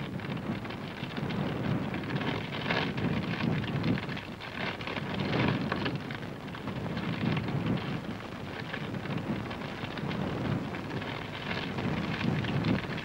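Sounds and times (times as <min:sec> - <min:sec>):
building fire rumbling and crackling: 0:00.0 - 0:13.0.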